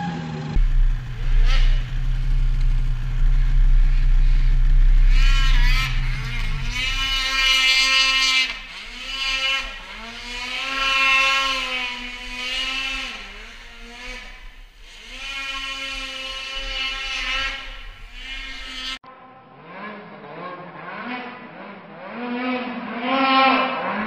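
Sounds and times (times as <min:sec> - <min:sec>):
snowmobile engine running: 0:00.0 - 0:19.0, 0:19.6 - 0:24.0
snowmobile engine revving: 0:00.0 - 0:24.0.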